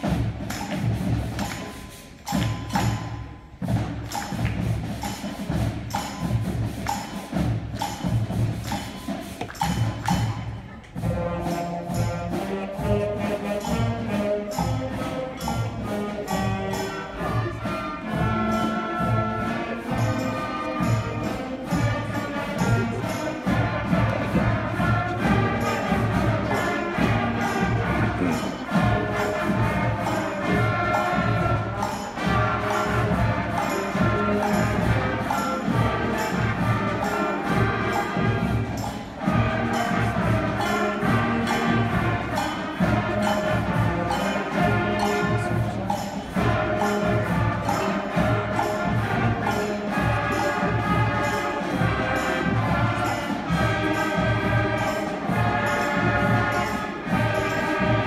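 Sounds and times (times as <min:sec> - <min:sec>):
concert band playing: 0:00.0 - 0:58.0
steady percussion beat: 0:00.0 - 0:58.0.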